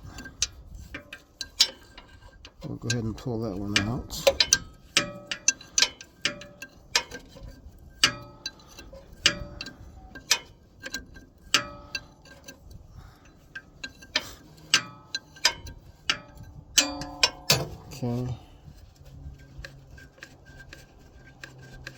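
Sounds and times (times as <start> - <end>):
wrench clicking on a nut: 0.0 - 17.8.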